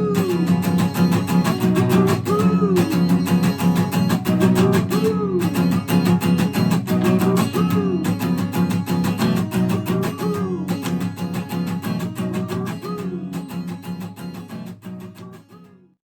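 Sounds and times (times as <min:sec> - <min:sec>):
swooping lead guitar line: 0:00.0 - 0:15.3
strummed guitar: 0:00.0 - 0:16.0.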